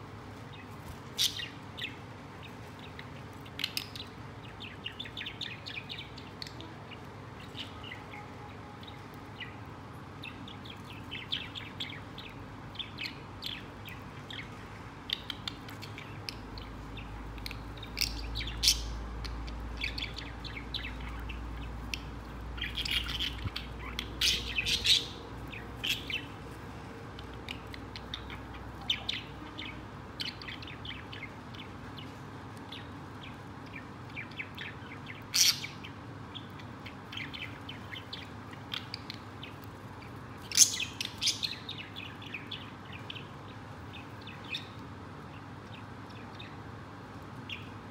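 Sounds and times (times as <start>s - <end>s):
budgerigars chirping: 0.5s - 26.4s, 27.1s - 32.1s, 32.7s - 46.7s.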